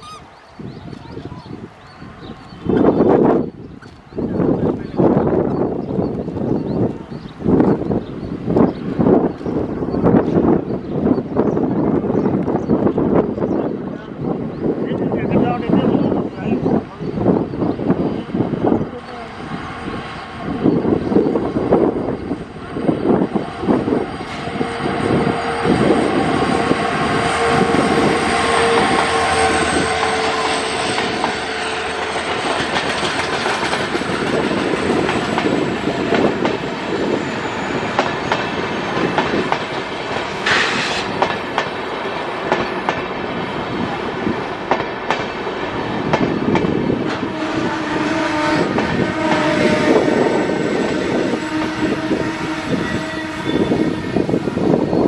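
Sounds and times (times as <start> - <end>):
diesel locomotive rolling past: 0.0 - 55.0.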